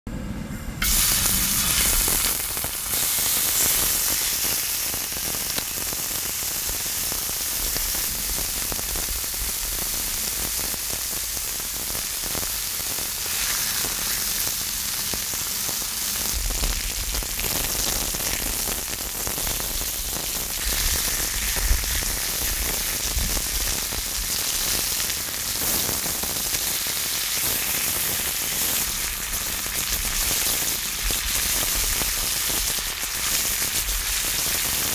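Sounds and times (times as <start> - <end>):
pork sizzling and spitting: 0.8 - 34.9.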